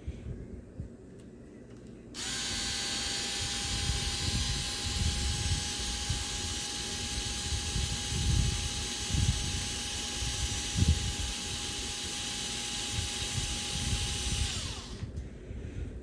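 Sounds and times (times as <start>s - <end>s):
small electric motor whirring: 2.2s - 15.2s.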